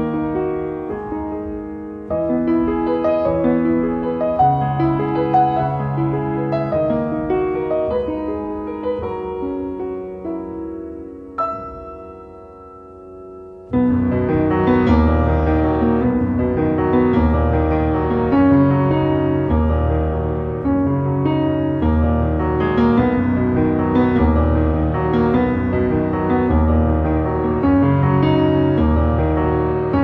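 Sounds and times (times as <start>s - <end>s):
piano music over bass beat: 0.0s - 30.0s.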